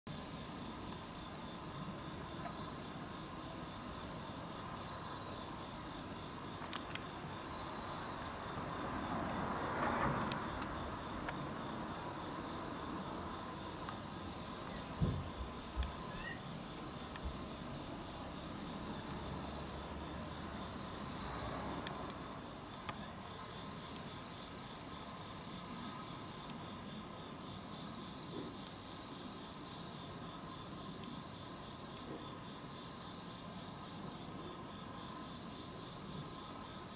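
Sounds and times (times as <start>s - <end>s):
crickets trilling: 0.1s - 36.9s
pulsing insect chirp: 0.1s - 36.9s.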